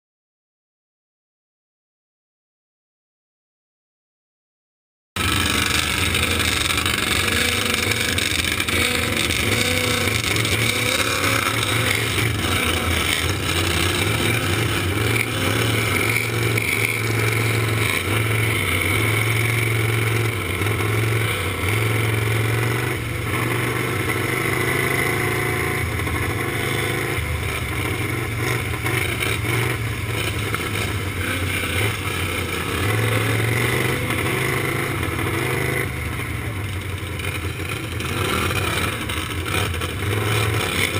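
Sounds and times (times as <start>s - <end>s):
other mower engines: 5.2s - 40.9s
racing lawn mower engine: 5.2s - 40.9s.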